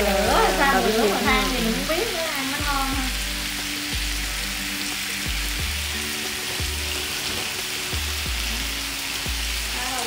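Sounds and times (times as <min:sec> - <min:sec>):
background music: 0:00.0 - 0:10.0
meat sizzling on grill: 0:00.0 - 0:10.0.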